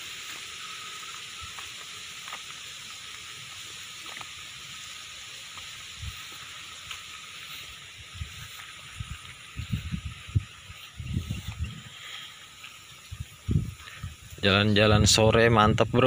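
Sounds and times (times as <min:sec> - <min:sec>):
soft footsteps on dirt path: 0:00.0 - 0:14.6
steady outdoor hiss: 0:00.0 - 0:16.0.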